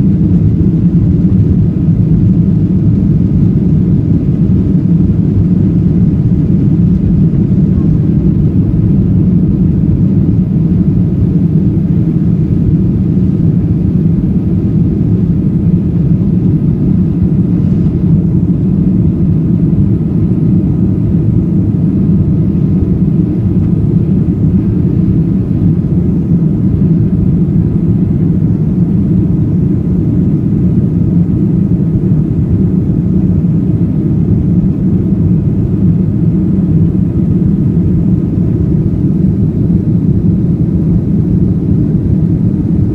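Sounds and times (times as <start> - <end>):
airplane cabin rumble: 0.0 - 42.9
faint steady hum: 0.0 - 42.9.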